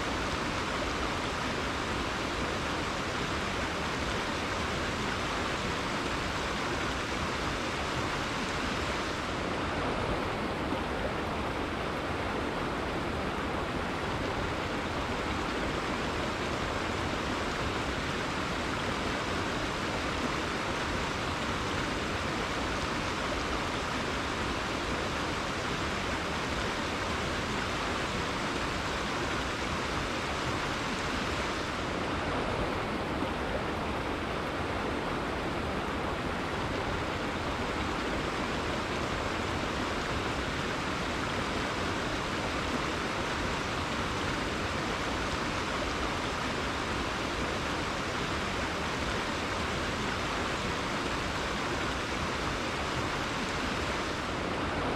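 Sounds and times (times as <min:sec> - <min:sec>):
river water rushing over rocks: 0:00.0 - 0:54.9.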